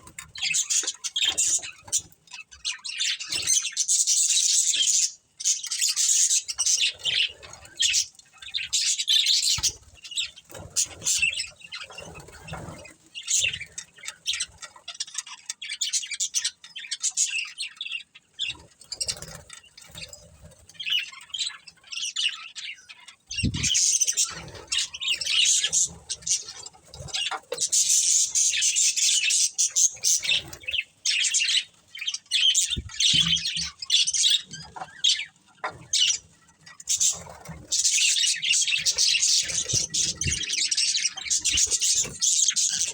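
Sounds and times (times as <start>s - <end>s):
budgerigars chirping: 0.2s - 42.9s.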